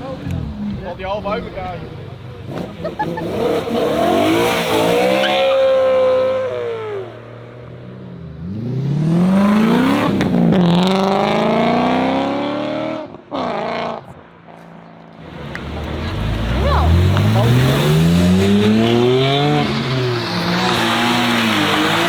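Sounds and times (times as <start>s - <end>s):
car engine revving: 0.0s - 14.1s, 15.2s - 22.0s.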